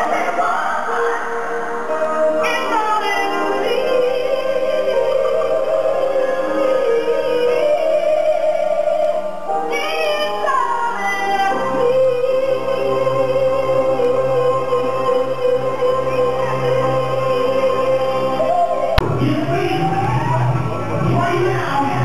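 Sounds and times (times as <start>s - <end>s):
music: 0.0s - 22.0s
woman singing long sliding notes: 0.0s - 22.0s.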